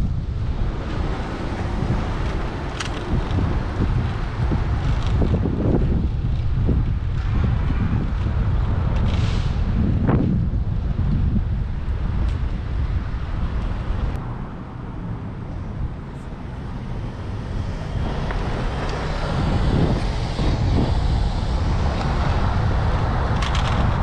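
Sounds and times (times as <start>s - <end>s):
vehicle road rumble: 0.0s - 24.0s
wind buffeting microphone: 0.0s - 24.0s.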